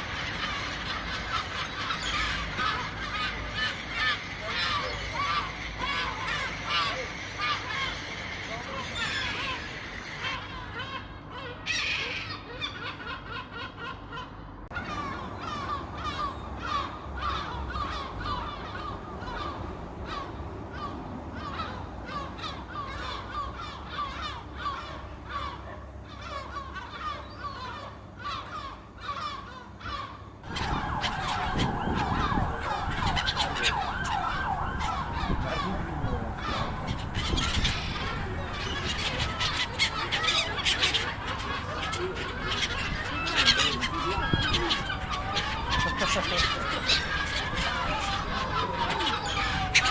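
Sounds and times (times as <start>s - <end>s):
seagulls calling: 0.0s - 49.9s.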